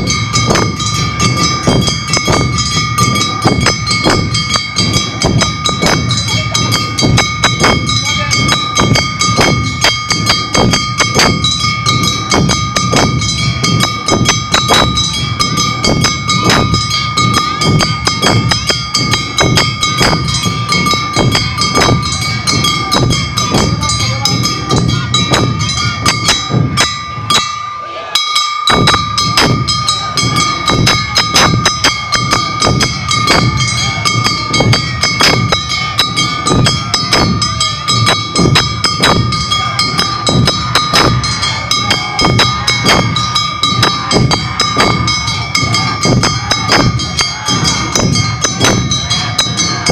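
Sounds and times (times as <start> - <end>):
drums beating quick rhythm: 0.0 - 49.9
high ringing tones: 0.0 - 49.9.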